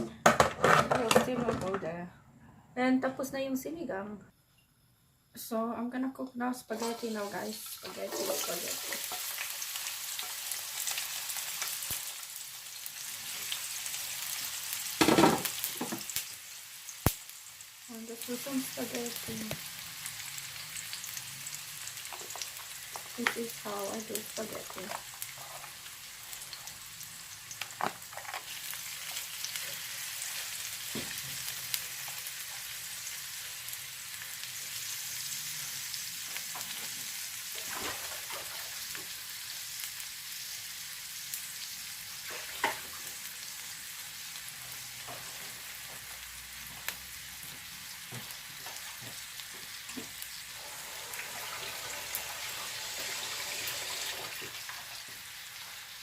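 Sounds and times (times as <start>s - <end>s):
food sizzling in a pan: 6.4s - 56.0s.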